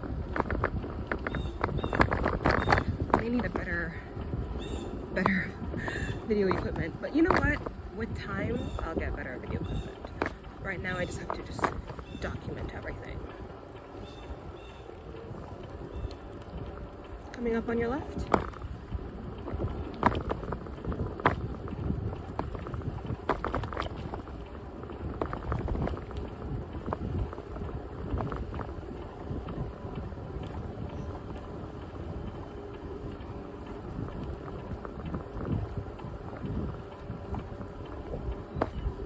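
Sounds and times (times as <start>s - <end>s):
bicycle rolling rumble: 0.0s - 39.0s
bike rattles and knocks: 0.0s - 39.0s
wind buffeting microphone: 0.0s - 39.0s.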